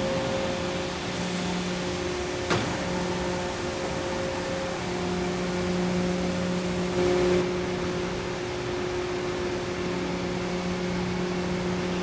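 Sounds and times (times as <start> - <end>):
machine hum: 0.0 - 12.0
noisy background: 0.0 - 12.0.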